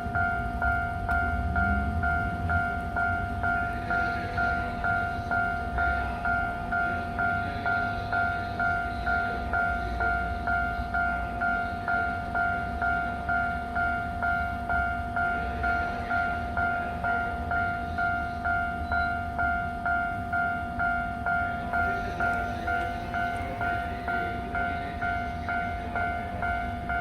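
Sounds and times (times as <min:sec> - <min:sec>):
electronic crossing bell dinging: 0:00.0 - 0:27.0
low train rumble: 0:00.0 - 0:27.0.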